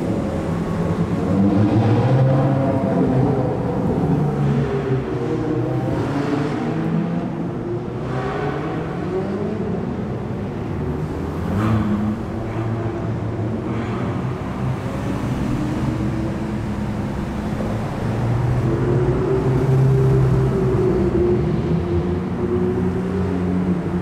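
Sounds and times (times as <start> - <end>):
supercar engines pulling away: 0.0 - 24.0.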